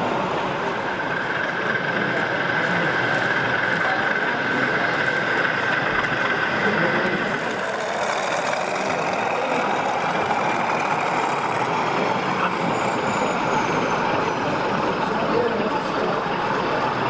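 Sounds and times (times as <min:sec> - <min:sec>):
exhibition hall noise: 0:00.0 - 0:17.0
model diesel engine sound: 0:00.0 - 0:17.0.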